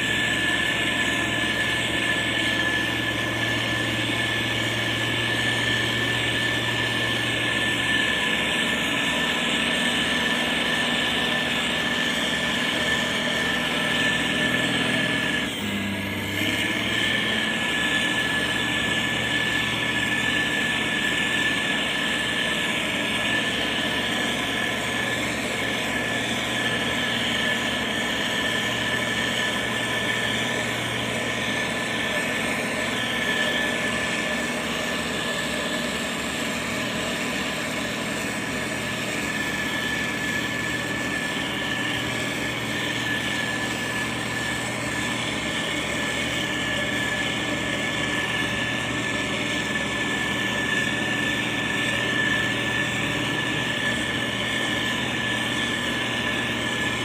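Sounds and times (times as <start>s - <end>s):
diesel engine running: 0.0s - 57.0s
thin high whine: 0.0s - 57.0s.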